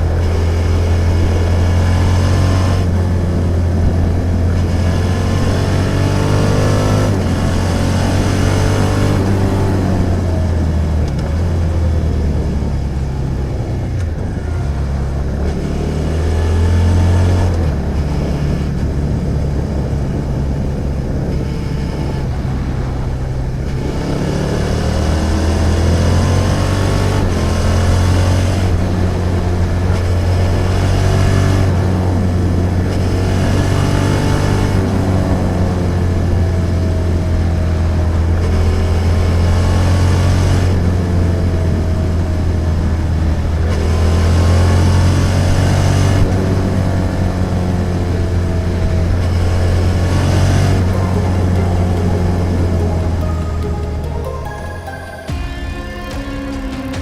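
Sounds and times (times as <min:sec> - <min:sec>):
motorcycle engine accelerating: 0:00.0 - 0:55.4.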